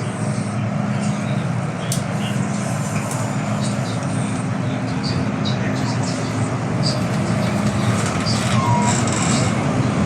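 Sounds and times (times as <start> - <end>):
train carriage rumble and hum: 0.0 - 10.0.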